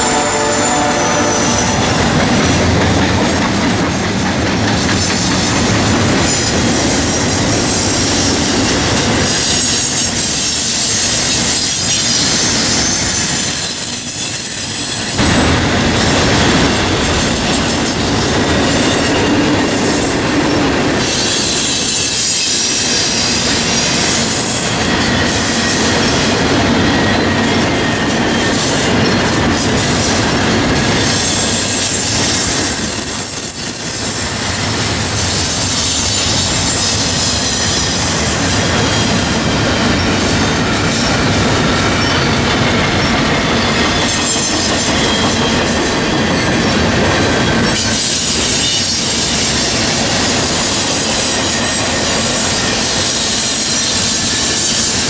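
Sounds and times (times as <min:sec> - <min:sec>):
high wheel squeal: 0:00.0 - 0:02.6, 0:06.2 - 0:15.4, 0:17.4 - 0:29.4, 0:30.9 - 0:55.0
train wheels rumbling on rail: 0:00.0 - 0:55.0.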